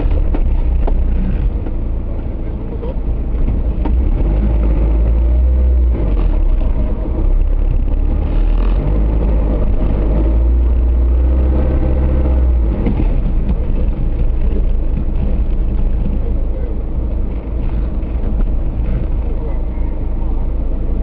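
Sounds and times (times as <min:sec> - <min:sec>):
deep rumble: 0:00.0 - 0:21.0
engine running under load: 0:00.0 - 0:21.0.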